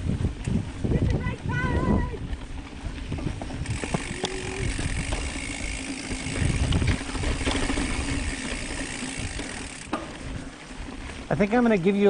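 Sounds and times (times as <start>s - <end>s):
bike knocking and rattling: 0.0s - 12.0s
bike tyres rumbling on dirt: 0.0s - 12.0s.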